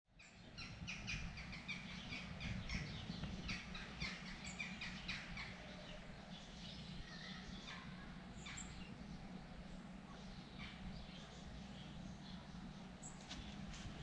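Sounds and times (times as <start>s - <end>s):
low background rumble: 0.2s - 14.0s.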